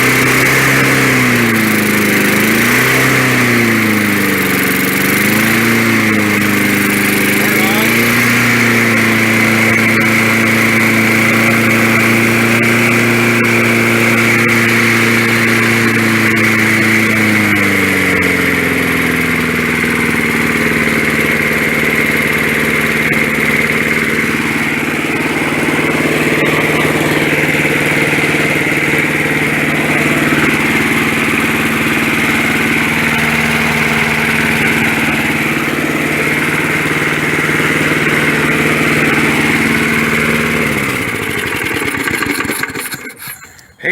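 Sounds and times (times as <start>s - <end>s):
small engine running: 0.0s - 43.7s.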